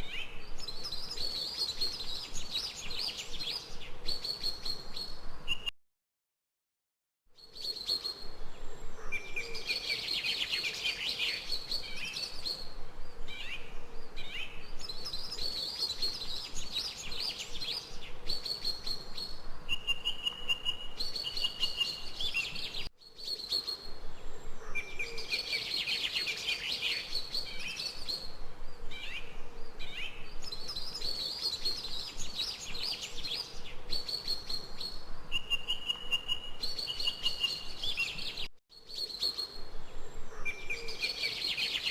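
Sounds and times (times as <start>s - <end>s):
birds singing and chirping: 0.0s - 5.7s, 7.4s - 41.9s
faint background hiss: 0.0s - 5.7s, 7.4s - 41.9s.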